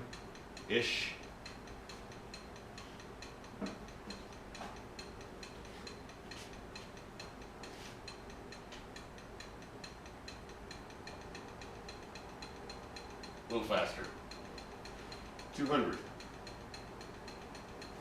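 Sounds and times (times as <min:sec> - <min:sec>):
faint mechanical ticking: 0:00.0 - 0:18.0.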